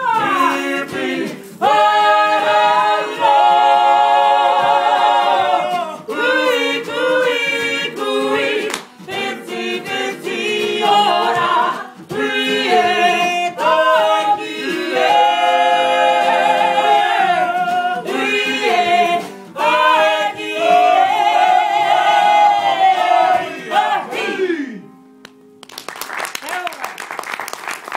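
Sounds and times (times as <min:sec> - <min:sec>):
group singing in unison: 0:00.0 - 0:24.9.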